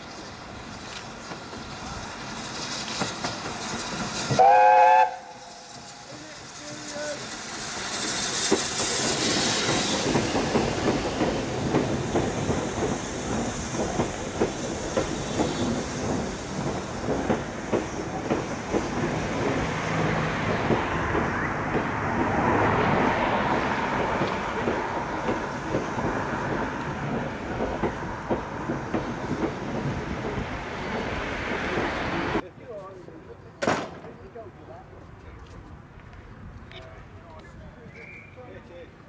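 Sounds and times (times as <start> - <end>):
train wheels clicking over rail joints: 0.0 - 32.4
railway coaches rumbling: 0.0 - 39.0.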